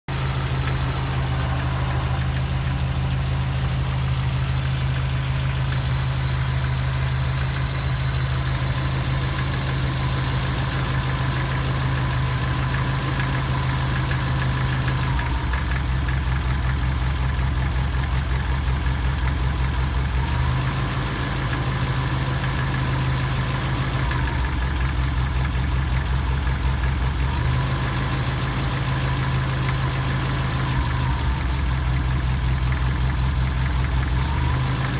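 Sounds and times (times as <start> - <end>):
engine idling with knock: 0.1 - 34.9.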